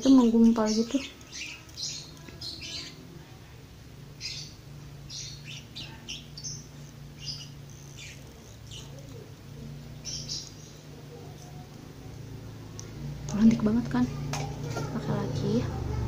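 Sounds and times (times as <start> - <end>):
birds chirping: 0.0 - 16.0
low steady hum: 0.0 - 16.0.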